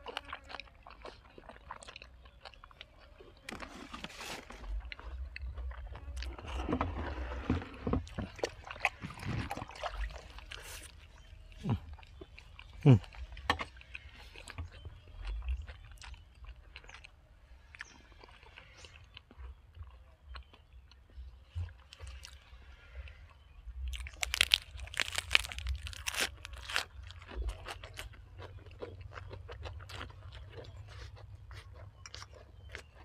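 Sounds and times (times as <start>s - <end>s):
person chewing and crunching food: 0.0s - 33.0s.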